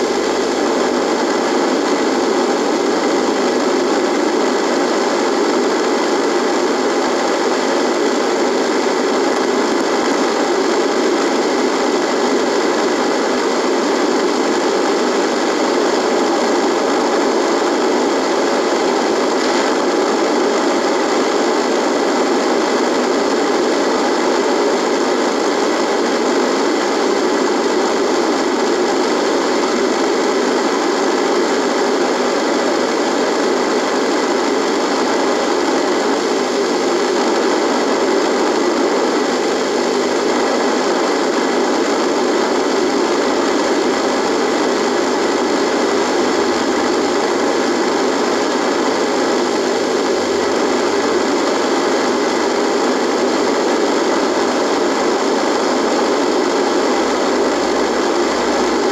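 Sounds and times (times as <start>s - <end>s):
radio static buzz: 0.0s - 58.9s.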